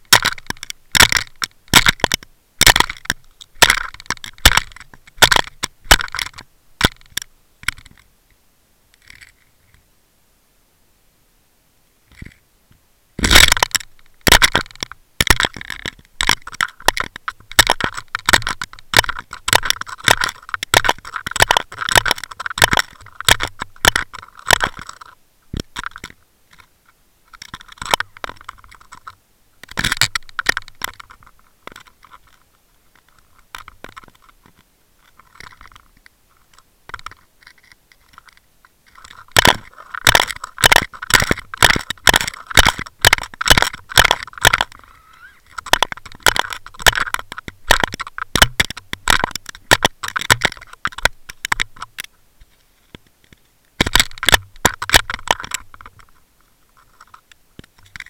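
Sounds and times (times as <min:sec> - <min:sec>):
underwater clicking and crackling: 0:00.0 - 0:08.1, 0:13.2 - 0:52.1, 0:52.9 - 0:58.0.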